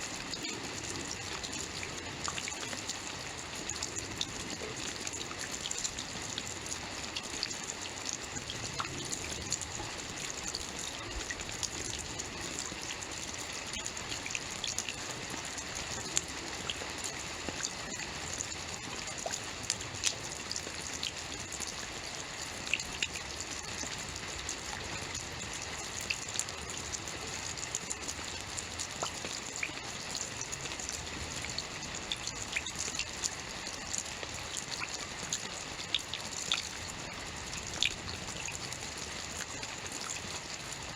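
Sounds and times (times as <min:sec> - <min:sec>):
raindrops pattering on a surface: 0:00.0 - 0:40.9
steady rain hiss: 0:00.0 - 0:40.9.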